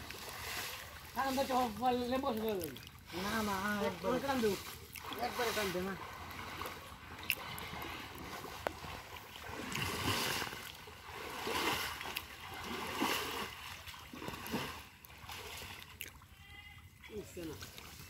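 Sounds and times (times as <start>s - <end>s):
water swishing and splashing: 0.0s - 18.0s.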